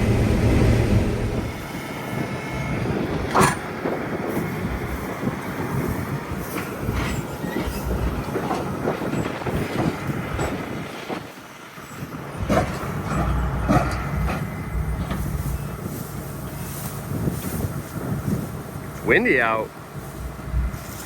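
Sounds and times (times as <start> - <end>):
tractor engine running: 0.0 - 21.0
empty wagons rattling and clanking: 3.2 - 21.0.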